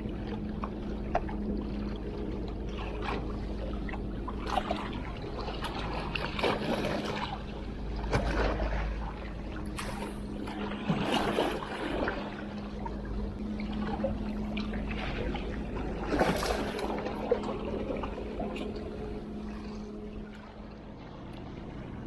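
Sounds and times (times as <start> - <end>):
sea water lapping: 0.0 - 22.0
steady low hum: 0.0 - 22.0.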